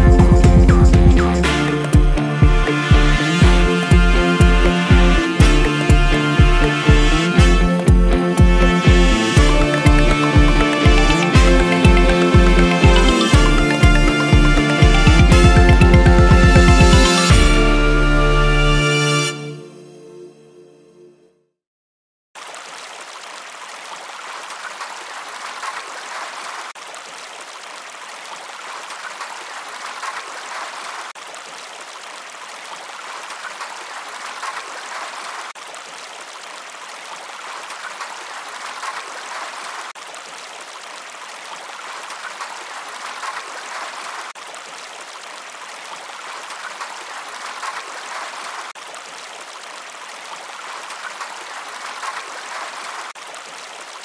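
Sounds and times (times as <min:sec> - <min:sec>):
running water rushing: 0:00.0 - 0:19.5, 0:22.4 - 0:54.0.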